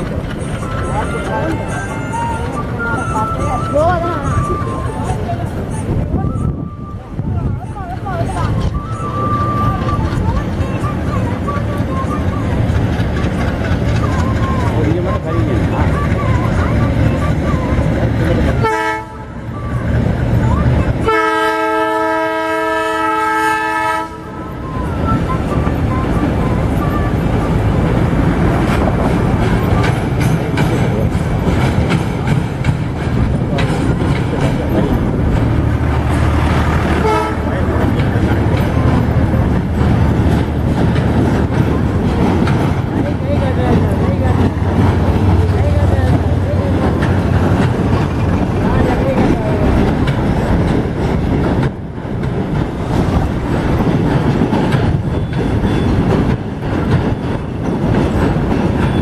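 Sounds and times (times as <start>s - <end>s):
wheels clicking over rail joints: 0.0s - 6.5s, 7.4s - 23.8s, 24.5s - 59.0s
train rumbling on a bridge: 0.0s - 59.0s.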